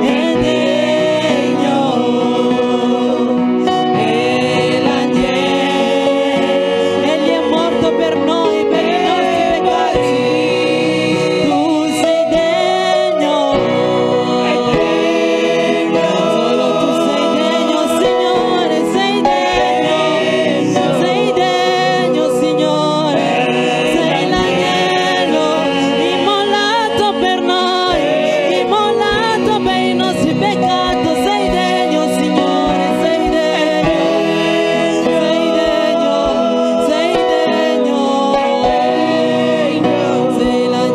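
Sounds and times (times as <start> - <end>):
choir singing gospel song: 0.0 - 40.9
musical accompaniment: 0.0 - 40.9.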